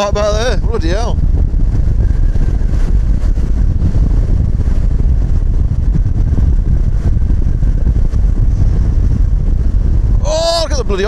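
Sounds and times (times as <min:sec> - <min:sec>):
motorcycle engine running: 0:00.0 - 0:10.2
wind rumble on microphone: 0:00.0 - 0:11.0.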